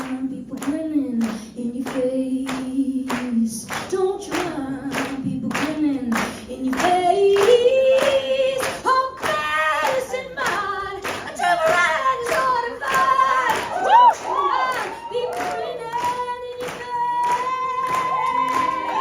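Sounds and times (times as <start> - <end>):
steady hand claps: 0.0 - 19.0
woman singing a cappella: 0.0 - 19.0.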